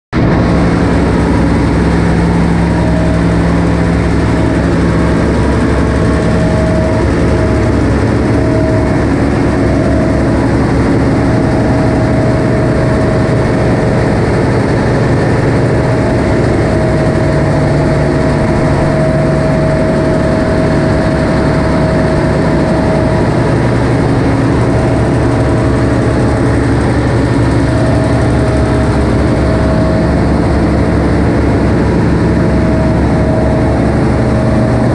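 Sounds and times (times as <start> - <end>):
higher whine: 0.2 - 34.9
marine diesel engine drone: 0.2 - 34.9.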